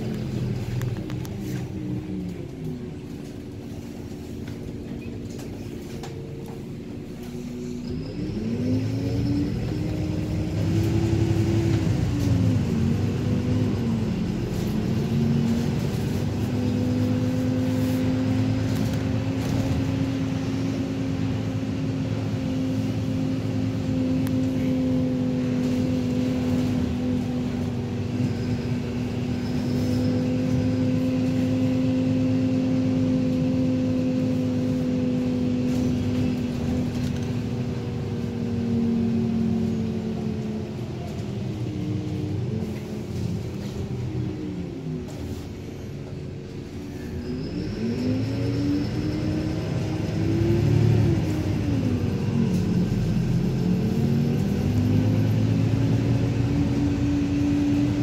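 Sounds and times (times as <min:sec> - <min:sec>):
bus engine: 0:00.0 - 0:58.0.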